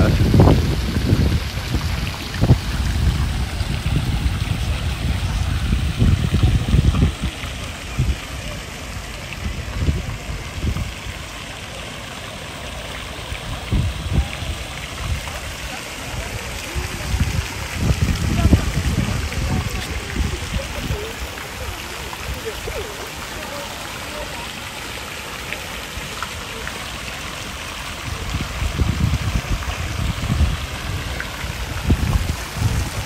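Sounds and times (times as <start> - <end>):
fountain jets splashing: 0.0 - 33.0.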